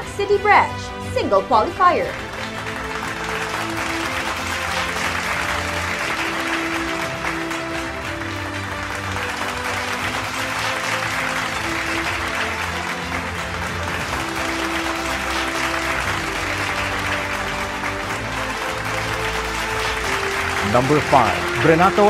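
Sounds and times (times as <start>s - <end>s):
background music with held notes: 0.0s - 22.0s
applause: 2.0s - 22.0s.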